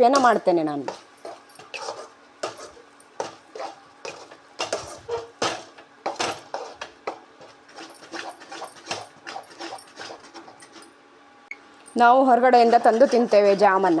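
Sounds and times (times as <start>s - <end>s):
spoon scraping a cooking pan: 0.0s - 10.8s, 12.5s - 14.0s.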